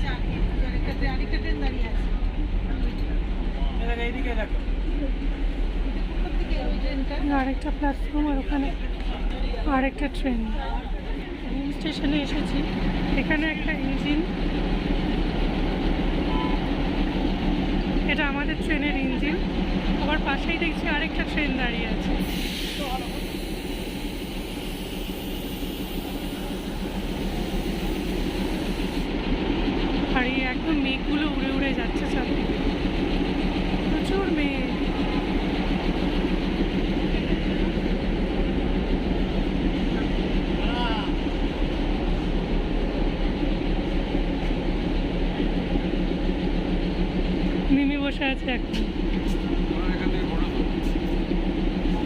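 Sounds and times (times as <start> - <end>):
locomotive rumble and hiss: 0.0 - 52.0.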